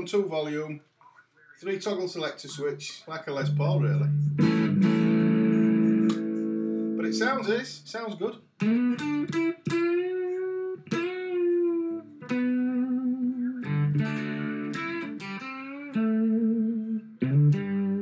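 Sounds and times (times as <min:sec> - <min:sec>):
electric guitar notes and chords: 0:02.6 - 0:07.6, 0:08.6 - 0:18.0.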